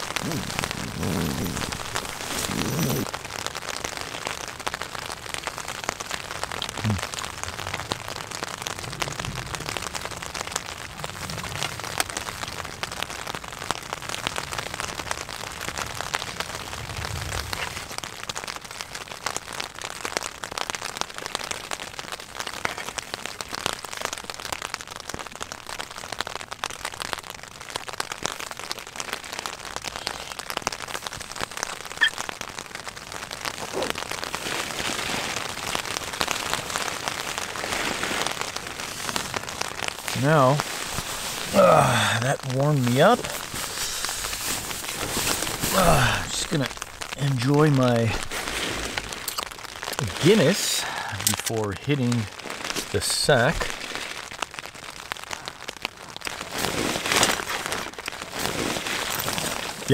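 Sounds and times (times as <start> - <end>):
rain pattering on tent fabric: 0.0 - 59.9.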